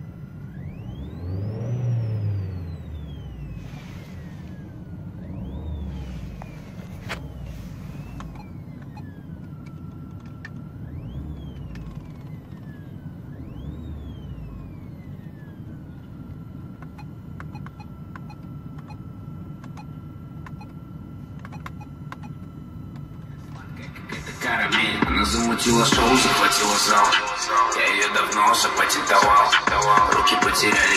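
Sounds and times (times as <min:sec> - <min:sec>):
car engine hum: 0:00.0 - 0:30.9
whistling whine from car speakers: 0:00.0 - 0:30.9.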